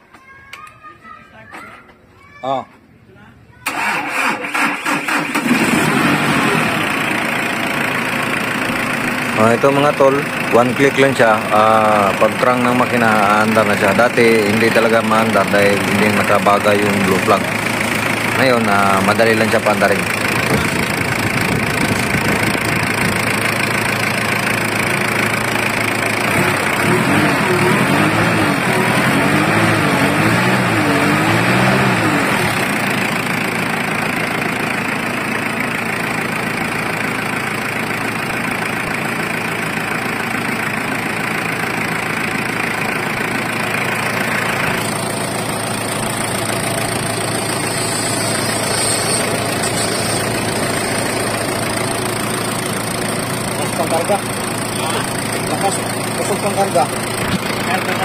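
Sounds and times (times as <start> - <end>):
diesel engine idling: 3.0 - 58.0.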